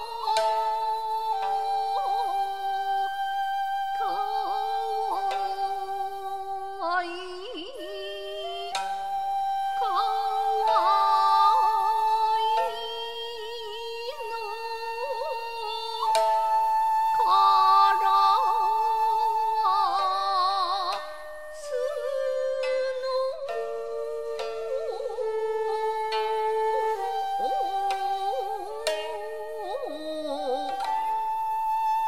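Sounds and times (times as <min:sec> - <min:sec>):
bamboo flute long notes: 0:00.0 - 0:32.0
woman singing: 0:00.0 - 0:32.0.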